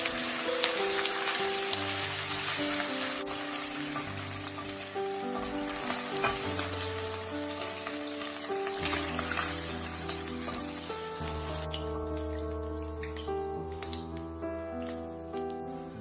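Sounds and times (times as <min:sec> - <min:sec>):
chicken sizzling in hot oil: 0:00.0 - 0:14.2
soft background music: 0:00.0 - 0:16.0.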